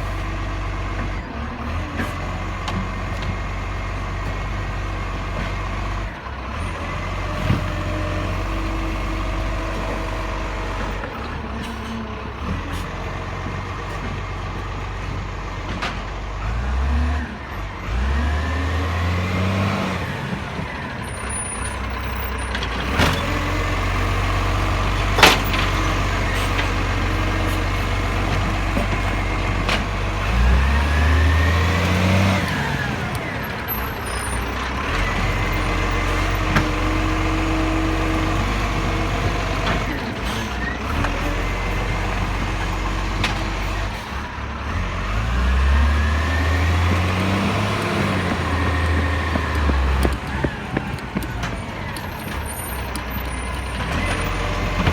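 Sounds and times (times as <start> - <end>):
garbage truck engine revving: 0.0 - 54.9.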